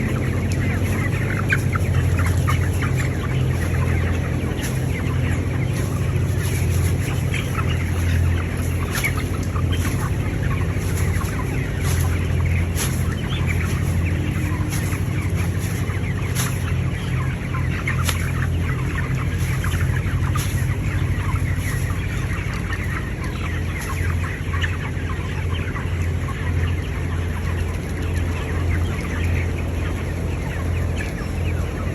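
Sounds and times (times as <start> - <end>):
chickens clucking and cheeping: 0.0 - 31.9
ventilation fans humming: 0.0 - 31.9.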